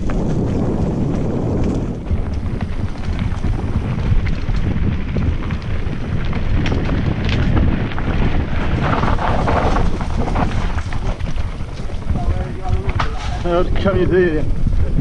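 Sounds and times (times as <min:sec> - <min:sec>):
bike rattling over stones: 0:00.0 - 0:15.0
wind buffeting microphone: 0:00.0 - 0:15.0.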